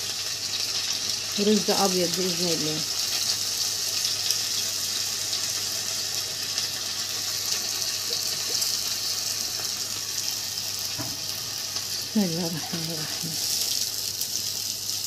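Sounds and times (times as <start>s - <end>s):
rice sizzling in a pot: 0.0s - 15.0s.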